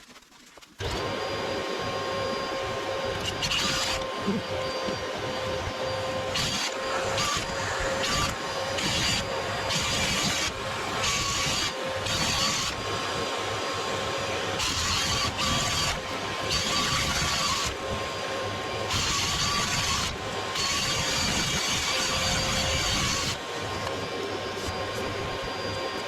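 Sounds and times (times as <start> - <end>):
vacuum whining: 0.8 - 26.0.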